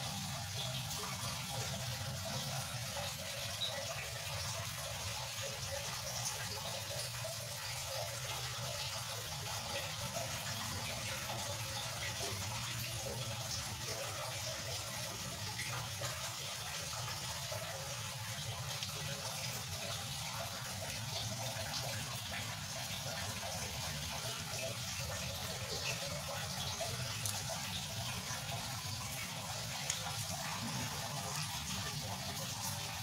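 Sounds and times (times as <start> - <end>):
water splashing into aquarium: 0.0 - 33.0.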